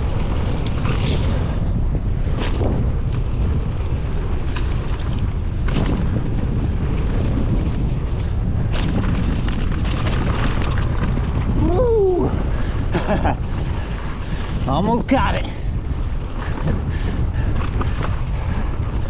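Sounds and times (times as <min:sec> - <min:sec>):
bike knocking and rattling: 0:00.0 - 0:19.0
wind rumble on microphone: 0:00.0 - 0:19.0.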